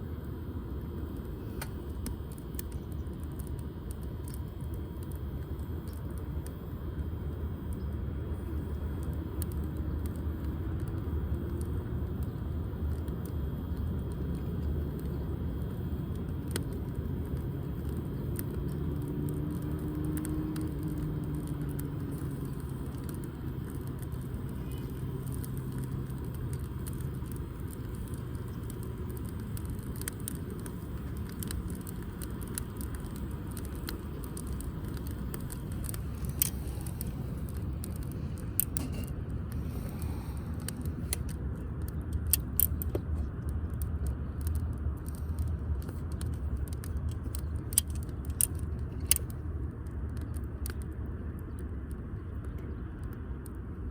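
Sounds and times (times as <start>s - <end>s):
low rumble: 0.0s - 50.8s
faint hum: 0.0s - 53.9s
wood fire crackling: 0.0s - 53.9s.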